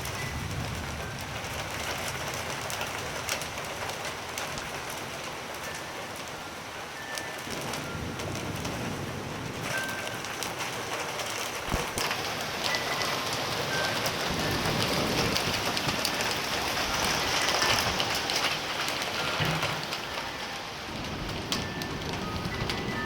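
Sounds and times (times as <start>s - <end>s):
heavy rain pouring: 0.0s - 23.0s
raindrops tapping close by: 0.0s - 23.0s.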